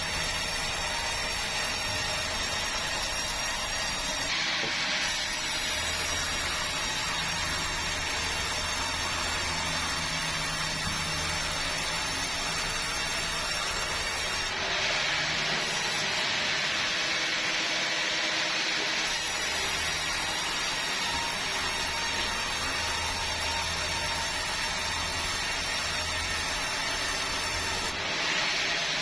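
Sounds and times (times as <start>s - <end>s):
sawmill saw cutting timber: 0.0s - 29.0s.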